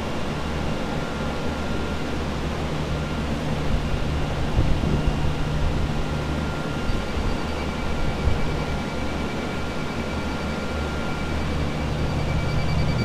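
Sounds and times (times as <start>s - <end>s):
faint high whine: 0.0s - 13.0s
fan rushing air: 0.0s - 13.0s.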